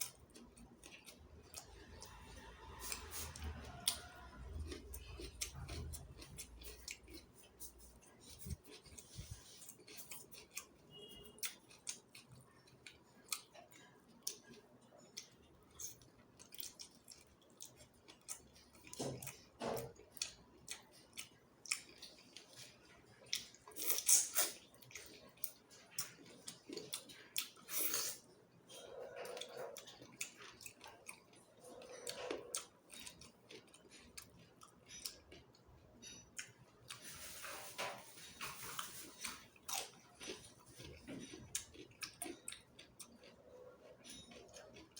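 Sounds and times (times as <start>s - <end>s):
close chewing and crunching: 0.0s - 44.9s.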